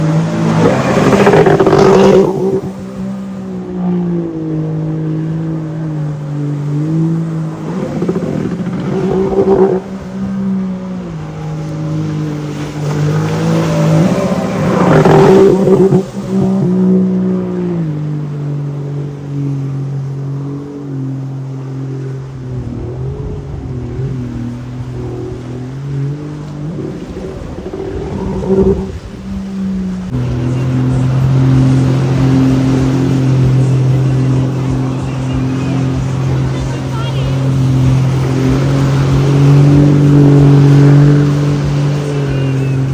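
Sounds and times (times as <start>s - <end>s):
jet ski engine running: 0.0s - 42.9s.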